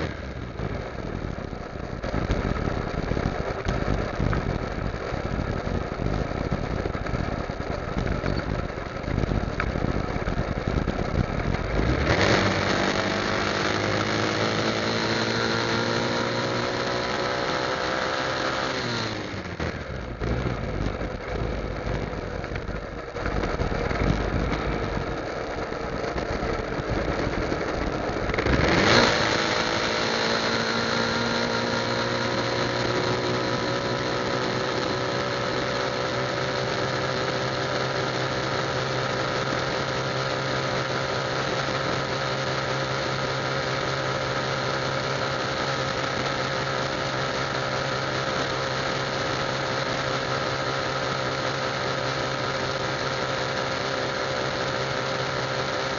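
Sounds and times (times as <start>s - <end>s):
motorcycle engine drone: 0.0s - 55.9s.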